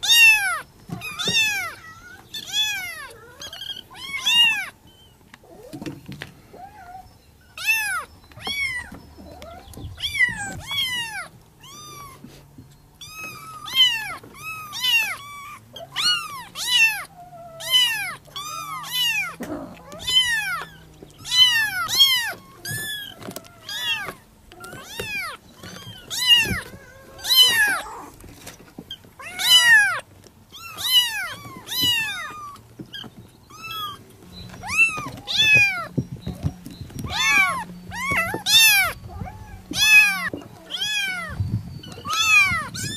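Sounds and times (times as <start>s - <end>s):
kittens mewing: 0.0s - 5.8s, 6.4s - 42.9s.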